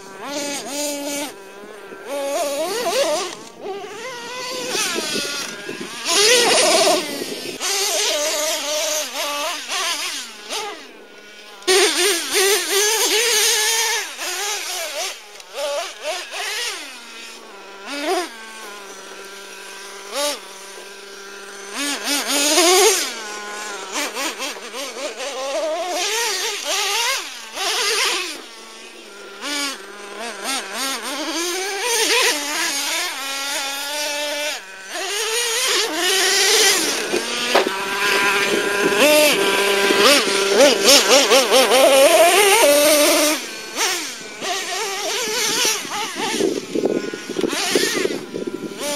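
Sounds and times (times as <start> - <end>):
nitro engine revving: 0.0 - 48.9.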